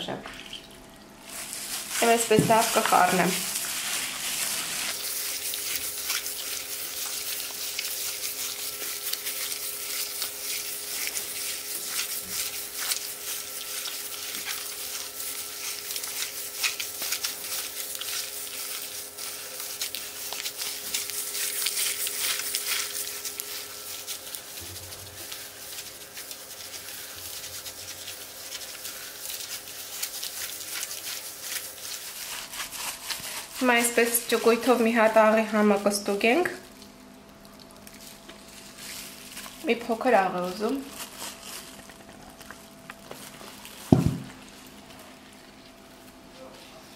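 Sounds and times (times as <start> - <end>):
wet squelching of kneaded meat: 1.2 - 46.3.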